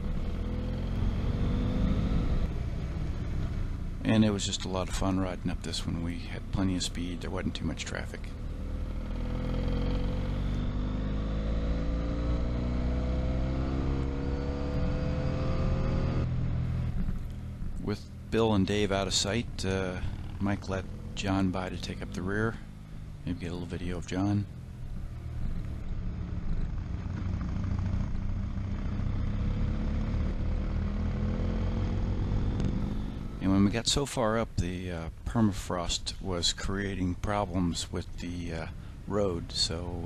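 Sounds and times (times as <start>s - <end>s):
motorcycle engine accelerating: 0.0s - 33.8s.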